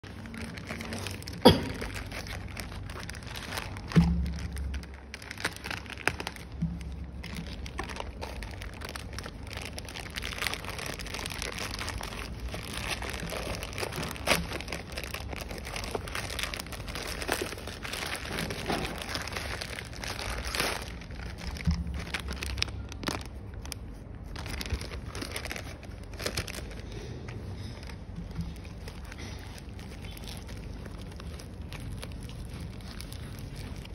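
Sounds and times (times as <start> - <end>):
plastic bag crinkling and tearing: 0.0 - 33.9.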